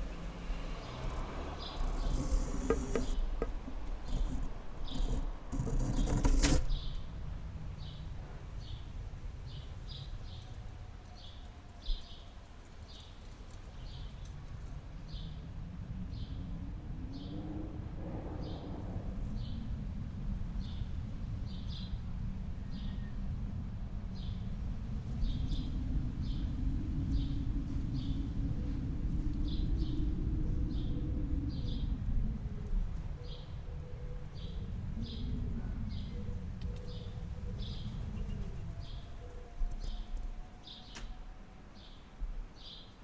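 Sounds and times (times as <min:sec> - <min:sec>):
wind rumbling: 0:00.0 - 0:11.0, 0:14.4 - 0:42.6.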